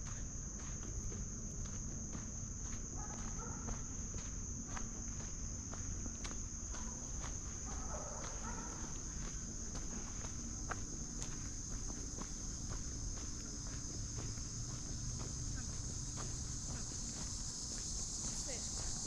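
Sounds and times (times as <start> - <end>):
footsteps crunching on trail: 0.0 - 19.0
insects droning: 0.0 - 19.0.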